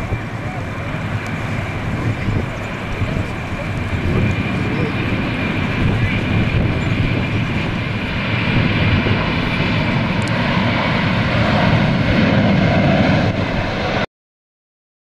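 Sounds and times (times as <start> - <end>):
loud deep jet engine rumble: 0.0 - 14.1.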